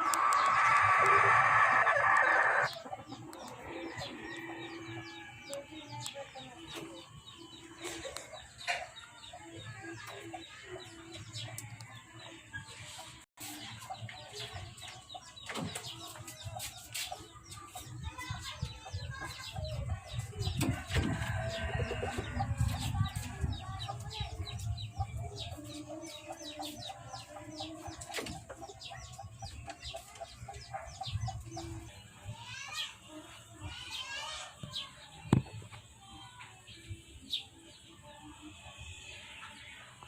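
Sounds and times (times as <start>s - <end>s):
chicks peeping and clucking: 0.0s - 40.0s.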